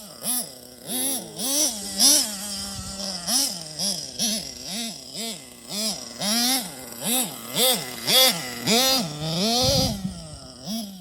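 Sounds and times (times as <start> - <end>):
rc car engine revving: 0.0 - 11.0.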